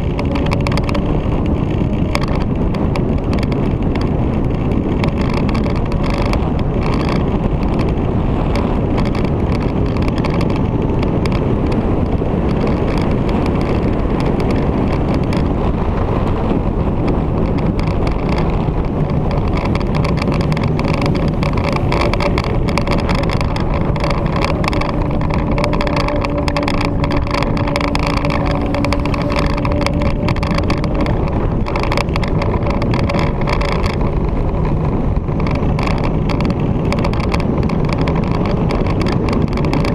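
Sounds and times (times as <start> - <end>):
motorcycle running at speed: 0.0 - 39.9
wind rush over microphone: 0.0 - 39.9.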